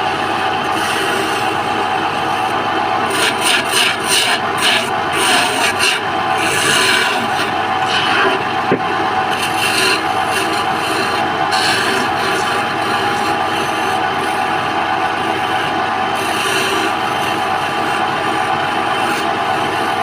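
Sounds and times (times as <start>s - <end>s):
woodworking machine running: 0.0s - 20.0s
tool scraping and cutting wood: 0.6s - 14.5s, 15.3s - 20.0s.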